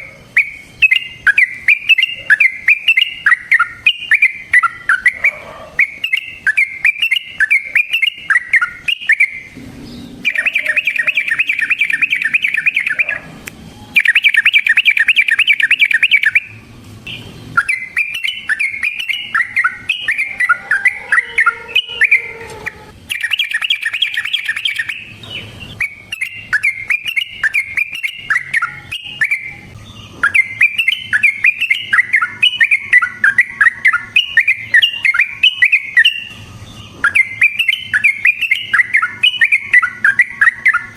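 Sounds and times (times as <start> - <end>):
bird fast rolling trills: 0.0 - 40.9
bird singing chattering notes: 0.0 - 40.9.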